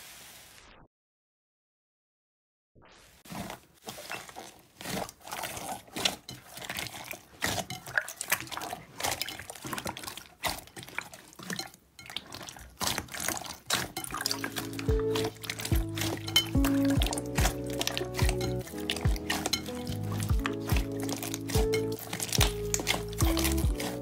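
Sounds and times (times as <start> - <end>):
slime squelching: 3.2 - 24.0.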